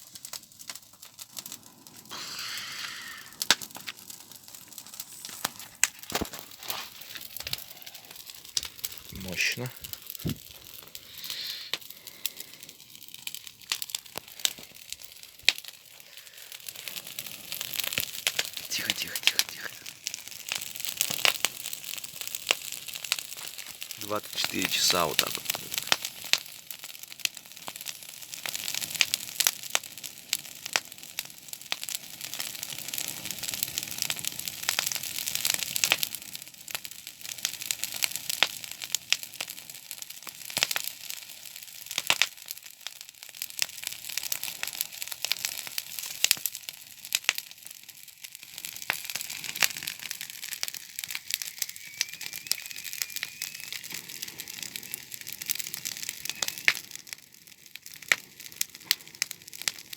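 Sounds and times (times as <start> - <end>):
paper fire crackling and hissing: 0.0 - 59.9.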